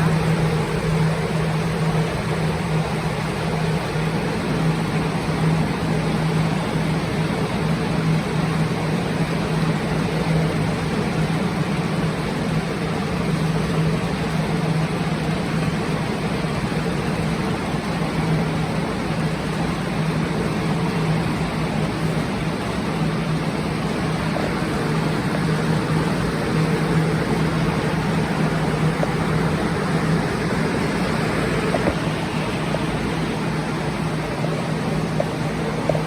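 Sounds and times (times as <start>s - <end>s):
drying fans rushing air: 0.0s - 36.0s
low motor hum: 0.0s - 36.0s.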